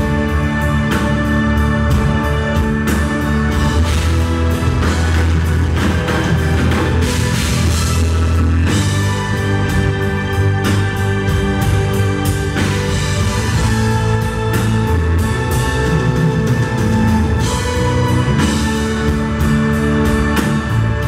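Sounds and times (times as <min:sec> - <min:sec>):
bass line: 0:00.0 - 0:21.0
drum kit with cymbal hits: 0:00.0 - 0:21.0
live rock band playing: 0:00.0 - 0:21.0
sustained keyboard chords: 0:00.0 - 0:21.0.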